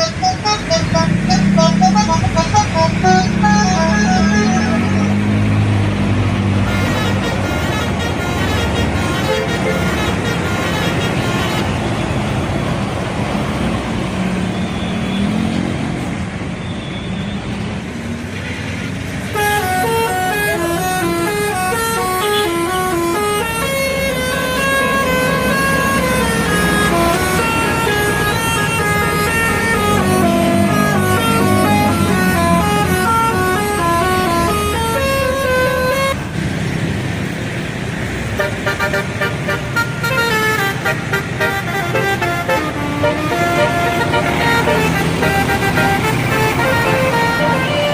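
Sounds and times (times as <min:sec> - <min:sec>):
musical bus horn tune: 0:00.0 - 0:12.1, 0:19.3 - 0:36.2, 0:38.4 - 0:47.9
bus engine: 0:00.0 - 0:47.9
road noise: 0:00.0 - 0:47.9.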